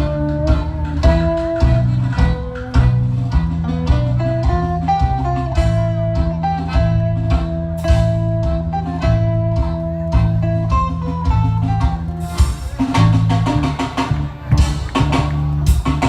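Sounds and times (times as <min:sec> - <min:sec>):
bass: 0:00.0 - 0:16.0
guitar melody: 0:00.0 - 0:16.0.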